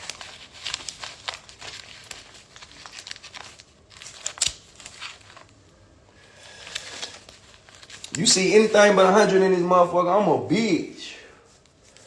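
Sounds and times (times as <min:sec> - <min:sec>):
paper banknotes rustling: 0:00.0 - 0:12.0.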